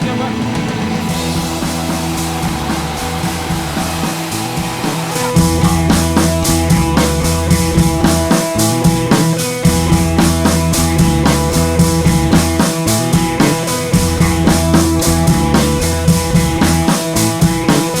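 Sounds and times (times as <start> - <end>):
bass: 0.0 - 18.0
drum kit beat: 0.0 - 18.0
rock music: 0.0 - 18.0.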